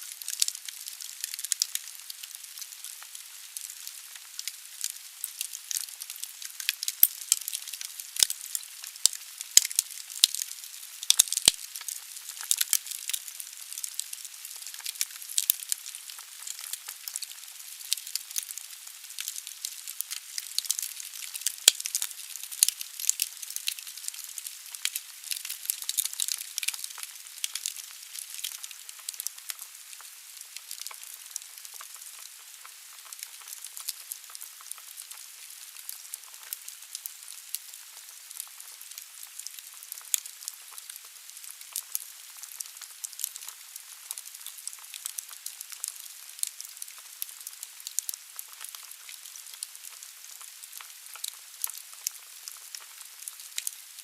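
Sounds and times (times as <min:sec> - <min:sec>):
wood fire crackling: 0:00.1 - 0:53.8.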